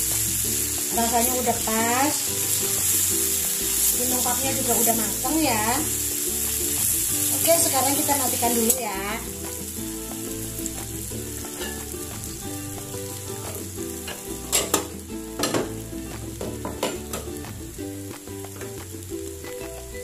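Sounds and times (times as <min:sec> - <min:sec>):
faint background music: 0:00.0 - 0:20.0
food sizzling in a pan: 0:00.0 - 0:20.0.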